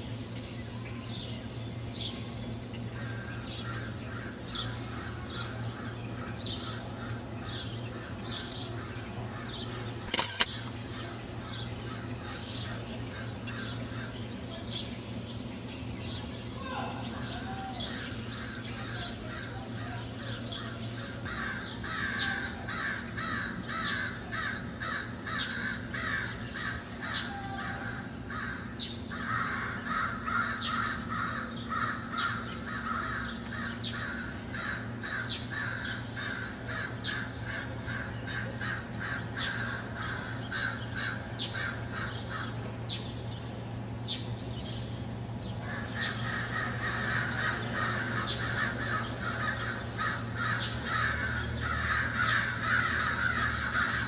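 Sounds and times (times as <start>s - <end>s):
steady low hum: 0.0s - 54.0s
crows cawing: 3.0s - 14.2s, 17.1s - 42.6s, 45.6s - 54.0s.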